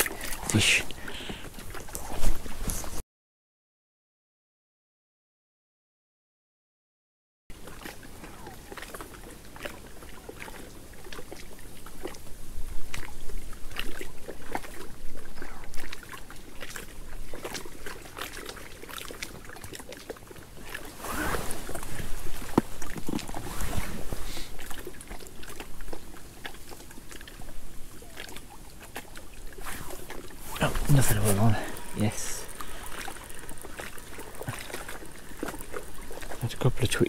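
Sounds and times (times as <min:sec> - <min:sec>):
water splashes and drips: 0:00.0 - 0:02.0, 0:07.5 - 0:37.0.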